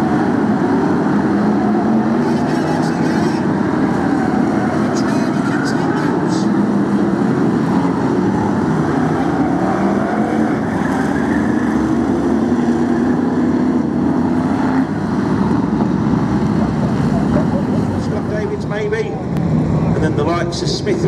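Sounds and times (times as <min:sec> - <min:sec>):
race car engines running: 0:00.0 - 0:21.0.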